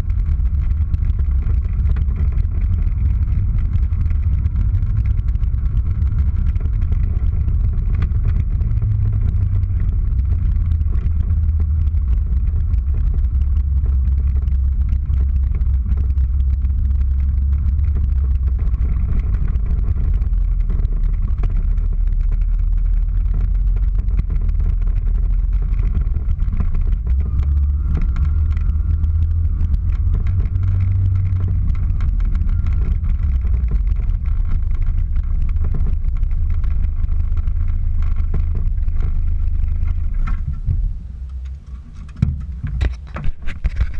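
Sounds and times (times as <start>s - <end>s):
car engine running: 0.0s - 43.9s
tyres rumbling over snow: 0.0s - 43.9s.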